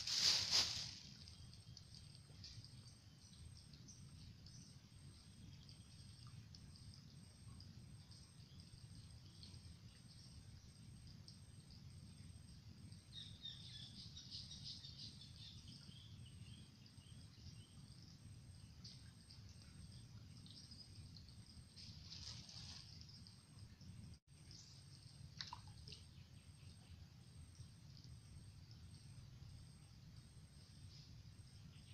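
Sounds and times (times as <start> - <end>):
low steady outdoor rumble: 0.0 - 31.9.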